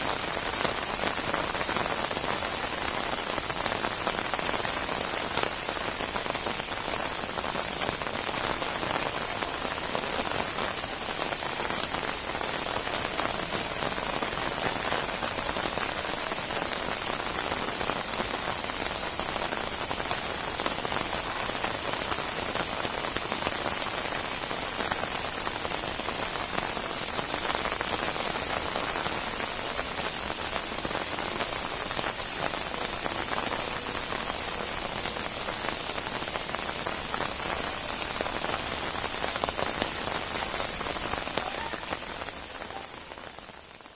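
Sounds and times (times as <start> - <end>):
rain pattering on a surface: 0.0 - 43.9.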